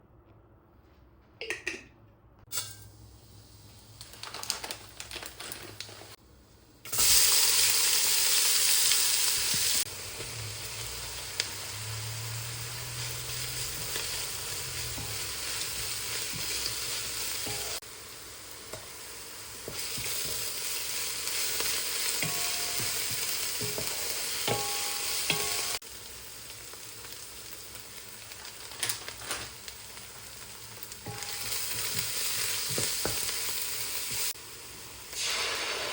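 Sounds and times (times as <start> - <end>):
food sizzling in hot oil: 6.9 - 35.9.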